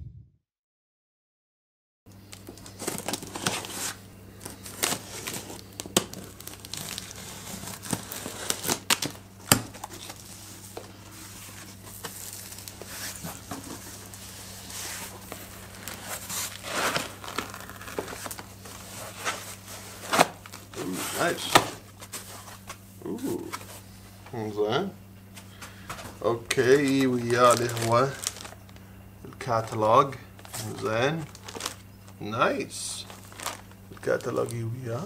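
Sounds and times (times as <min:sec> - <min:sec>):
low electrical hum: 0:02.1 - 0:35.0
packaging crinkling and tearing: 0:02.3 - 0:22.8, 0:26.0 - 0:32.2, 0:32.9 - 0:35.0.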